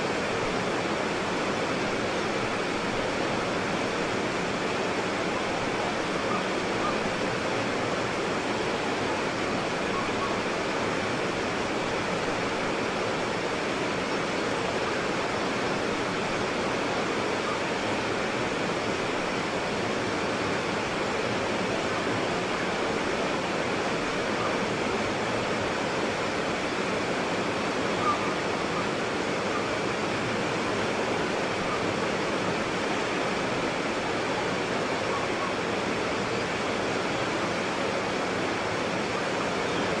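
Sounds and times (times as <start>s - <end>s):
rapids rushing: 0.0s - 40.0s.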